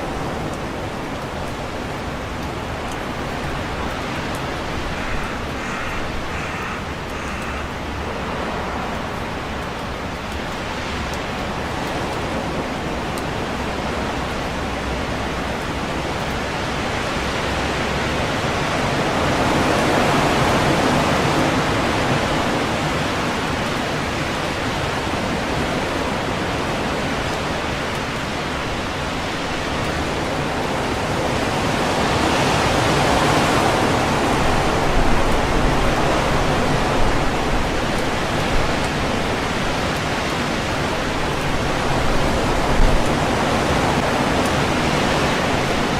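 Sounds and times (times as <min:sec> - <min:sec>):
wind rushing through leaves: 0:00.0 - 0:45.9.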